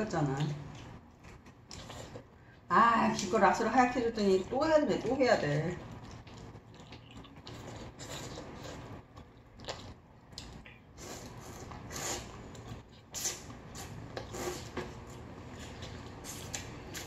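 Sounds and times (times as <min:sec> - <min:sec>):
wet chewing: 0:00.2 - 0:03.4, 0:04.3 - 0:17.0.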